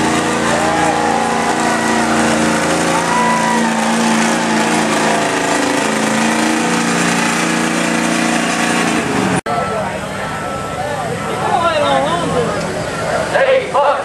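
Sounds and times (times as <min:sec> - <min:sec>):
diesel truck engine revving high: 0:00.0 - 0:13.6.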